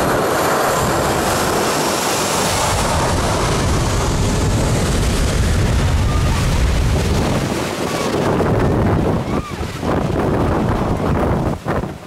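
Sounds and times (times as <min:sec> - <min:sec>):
jet blast wind noise on microphone: 0:00.0 - 0:12.0.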